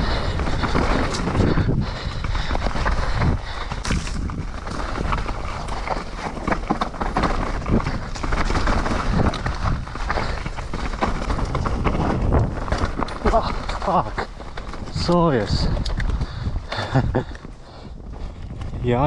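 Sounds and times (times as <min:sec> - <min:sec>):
bike knocking and rattling: 0:00.0 - 0:19.0
bike tyres on wet trail: 0:00.0 - 0:19.0.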